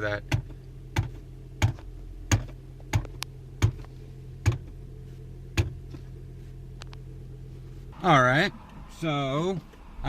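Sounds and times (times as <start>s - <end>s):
car cabin hum: 0.0s - 10.0s.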